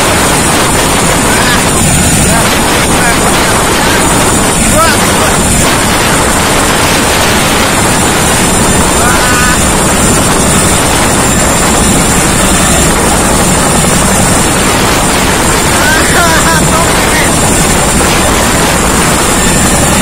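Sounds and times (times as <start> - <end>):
helicopter rotor and engine noise: 0.0 - 20.0
high engine whine: 0.0 - 20.0
wind buffeting microphone: 0.0 - 20.0.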